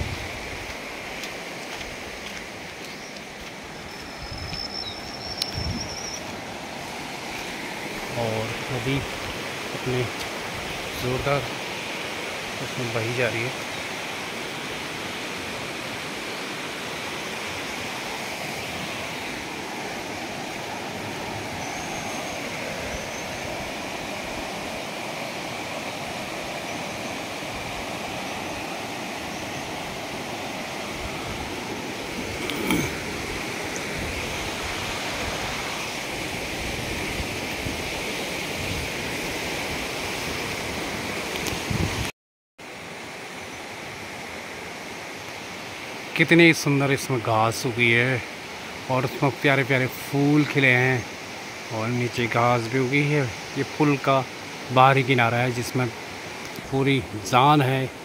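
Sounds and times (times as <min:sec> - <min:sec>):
river rushing over stones: 0:00.0 - 0:58.0.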